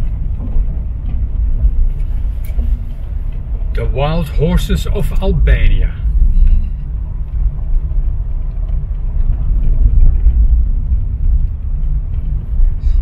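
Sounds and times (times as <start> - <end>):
car driving on gravel: 0.0 - 13.0.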